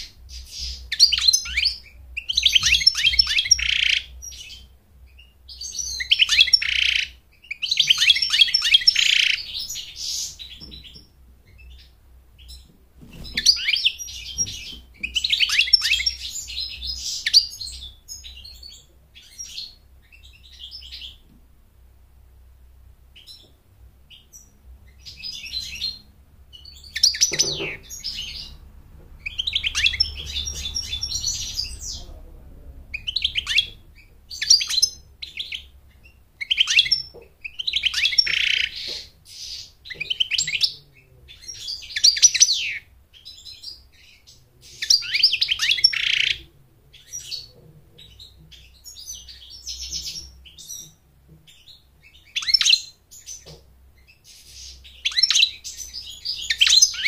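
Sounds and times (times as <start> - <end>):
goldfinch twittering song: 0.0 - 21.2, 24.1 - 32.2, 32.9 - 57.0.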